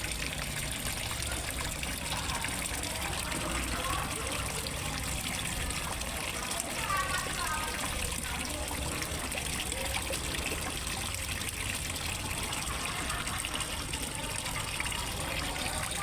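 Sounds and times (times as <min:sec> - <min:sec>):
water trickling into pond: 0:00.0 - 0:16.0.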